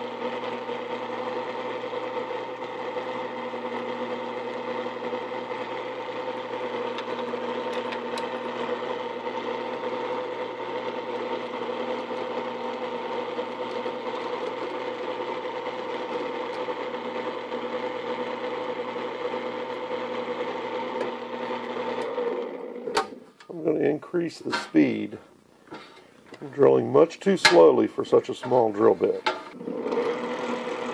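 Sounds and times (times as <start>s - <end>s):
drill press motor humming: 0.0s - 23.3s, 28.5s - 30.9s.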